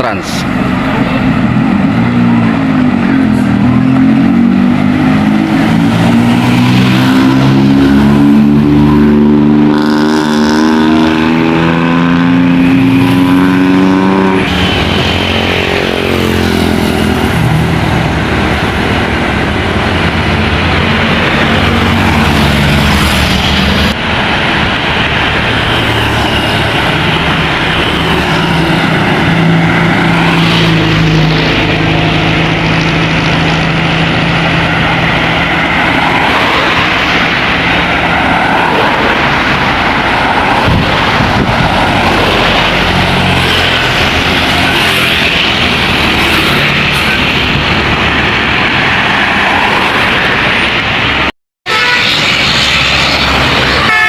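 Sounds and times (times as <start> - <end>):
bus engine revving: 0.0 - 54.0
passing traffic noise: 0.0 - 54.0.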